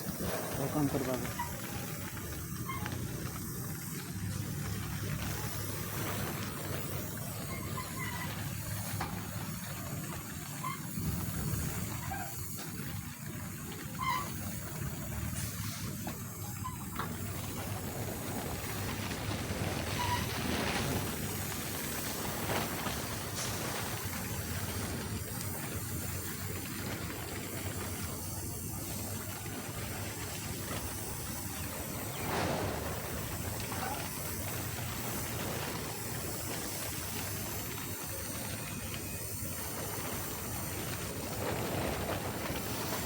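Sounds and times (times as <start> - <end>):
welding arc hissing: 0.0 - 43.0.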